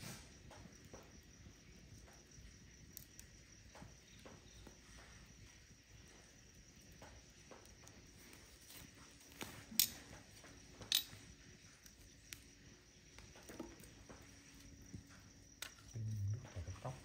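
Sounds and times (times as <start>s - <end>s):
campfire crackling: 0.0s - 16.1s.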